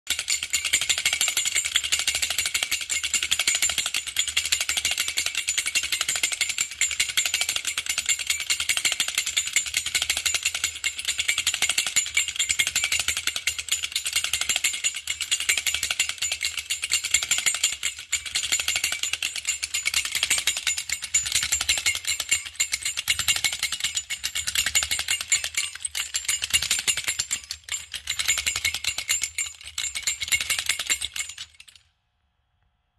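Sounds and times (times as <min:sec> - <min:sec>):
clockwork mechanism rattling: 0:00.1 - 0:31.9.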